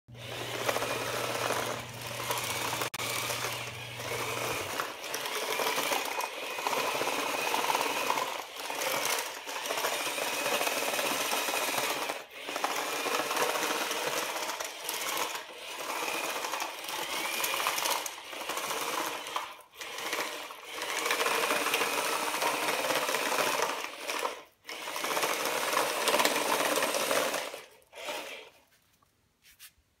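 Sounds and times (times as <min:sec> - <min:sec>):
electric gear motors whirring: 0:00.1 - 0:28.6.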